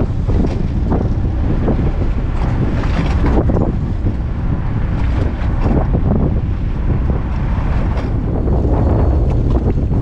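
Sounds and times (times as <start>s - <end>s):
boat noise: 0.0s - 10.0s
sea: 0.0s - 10.0s
wind buffeting microphone: 0.0s - 10.0s.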